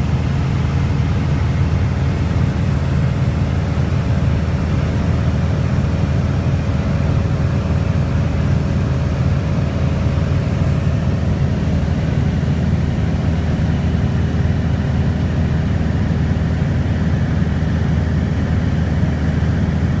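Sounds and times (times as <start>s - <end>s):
light aircraft engine droning: 0.0s - 20.0s.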